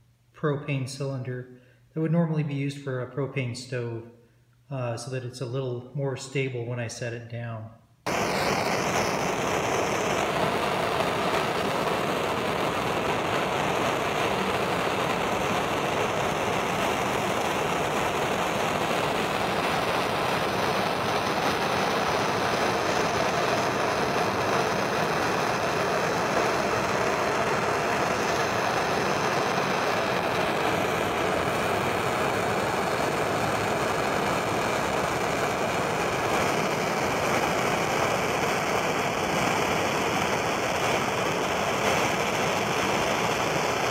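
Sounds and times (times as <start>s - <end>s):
torch flame hissing: 8.1s - 43.9s.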